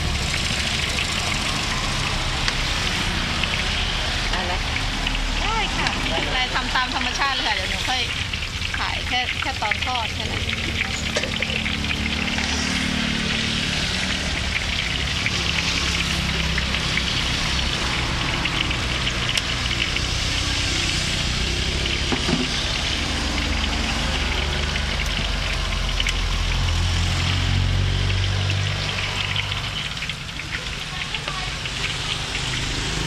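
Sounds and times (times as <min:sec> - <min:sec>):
food deep-frying in hot oil: 0:00.0 - 0:33.0
low engine rumble: 0:00.0 - 0:33.0.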